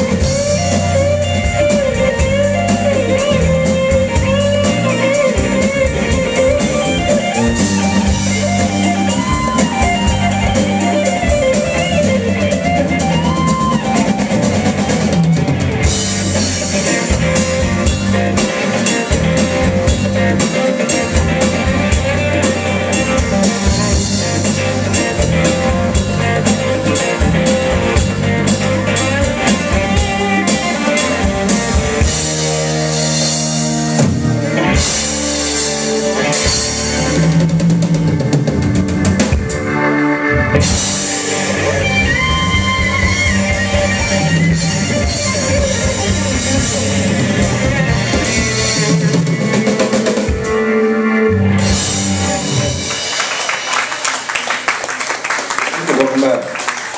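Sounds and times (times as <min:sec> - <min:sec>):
drum kit with hi-hat beat: 0:00.0 - 0:50.7, 0:51.5 - 0:54.0
electric guitar lead with bent notes: 0:00.0 - 0:53.8
keyboard: 0:00.0 - 0:54.0
bass: 0:00.0 - 0:56.9.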